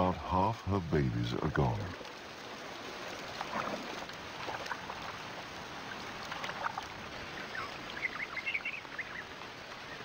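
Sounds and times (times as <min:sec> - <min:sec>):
river water lapping and splashing: 0:01.0 - 0:10.0.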